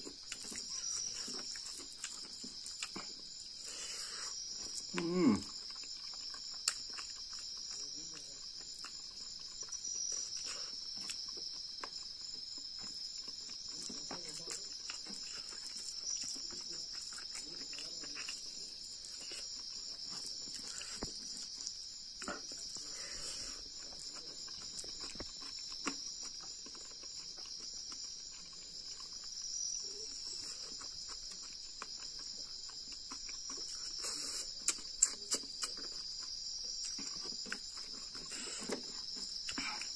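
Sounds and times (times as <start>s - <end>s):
crickets chirring: 0.0s - 39.9s
soft chewing: 0.0s - 39.9s.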